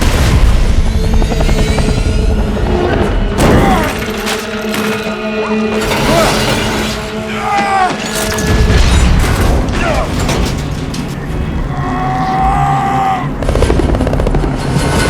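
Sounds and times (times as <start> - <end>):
film music score: 0.0 - 15.0.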